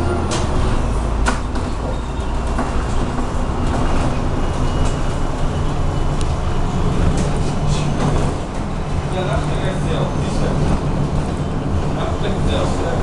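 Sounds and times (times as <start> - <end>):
bus engine hum and road rumble: 0.0 - 13.0
rattles and clicks from bus body: 0.0 - 13.0.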